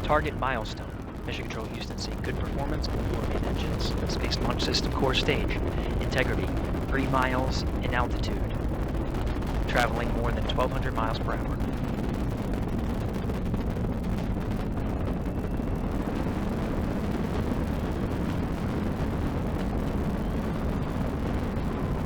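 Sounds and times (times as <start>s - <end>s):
rocket launch roar: 0.0s - 22.0s.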